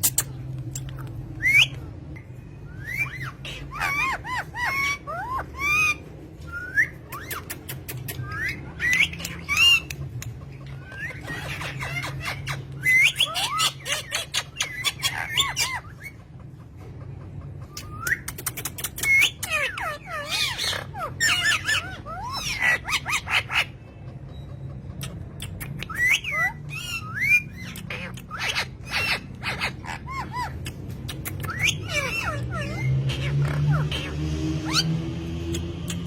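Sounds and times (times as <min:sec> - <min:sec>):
parrots chattering and squawking: 0:00.0 - 0:36.0.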